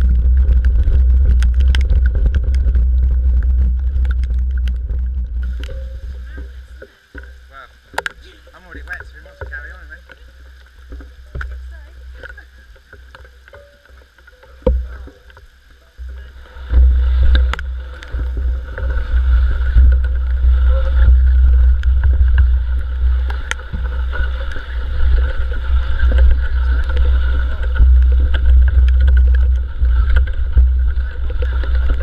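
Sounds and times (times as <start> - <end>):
muffled mountain bike riding rumble: 0.0 - 32.0.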